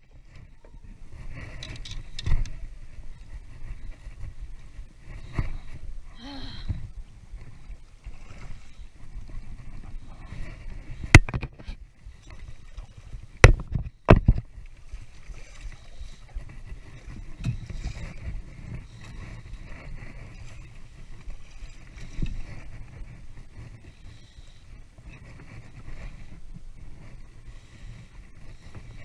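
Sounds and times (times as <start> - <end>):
water noise: 0.0 - 29.0
wind: 0.0 - 29.0.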